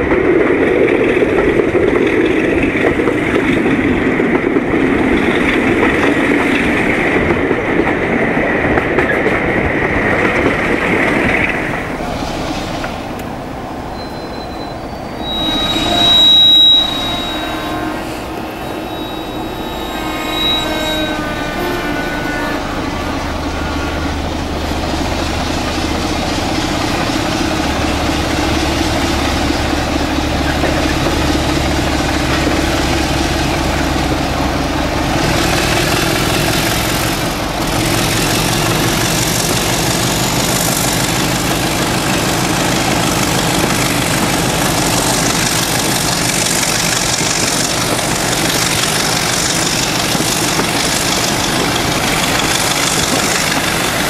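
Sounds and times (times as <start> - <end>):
diesel locomotive engine: 0.0 - 54.0
rail noise: 0.0 - 54.0.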